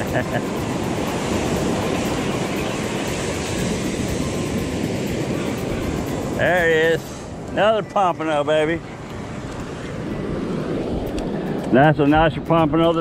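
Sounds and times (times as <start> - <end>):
surf washing on beach: 0.0 - 13.0.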